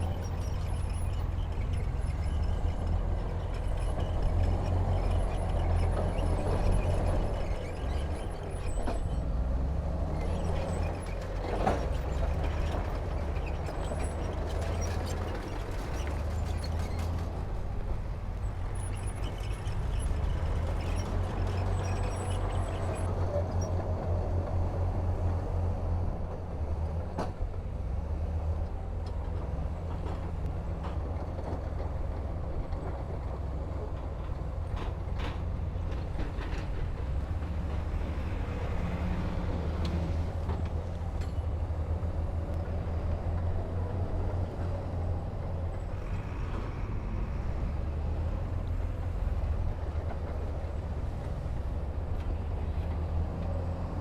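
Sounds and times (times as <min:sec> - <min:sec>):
heavy machinery engine rumble: 0:00.0 - 0:54.0.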